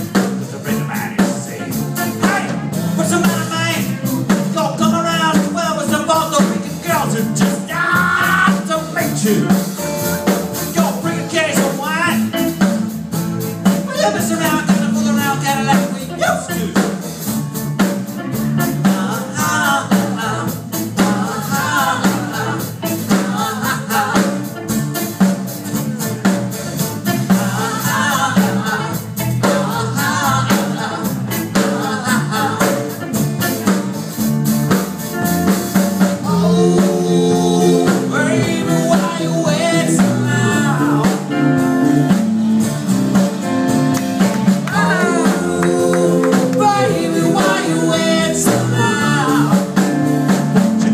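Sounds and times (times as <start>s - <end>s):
drums steady beat: 0.0s - 50.9s
guitar melodic lead line: 0.0s - 50.9s
live rock band playing: 0.0s - 50.9s.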